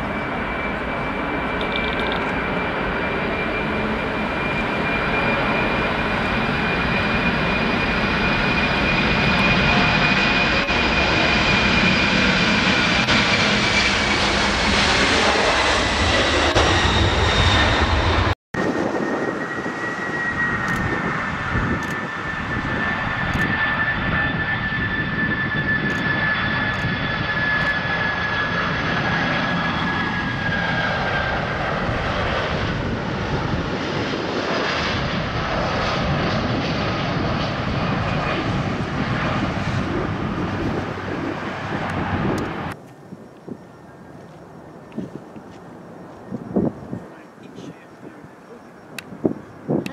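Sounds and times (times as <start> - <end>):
jet aircraft on approach: 0.0 - 49.9
jet engines roaring at takeoff: 0.0 - 49.9.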